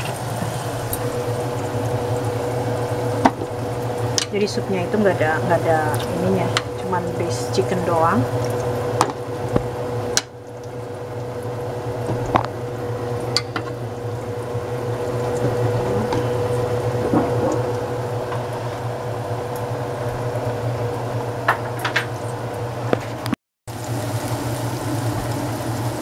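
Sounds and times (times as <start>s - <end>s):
low hum: 0.0s - 26.0s
pot simmering: 0.0s - 26.0s.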